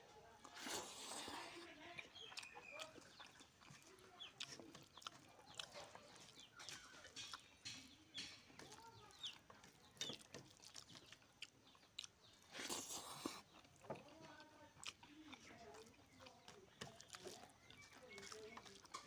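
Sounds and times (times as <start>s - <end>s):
eating noise: 0.0s - 19.0s.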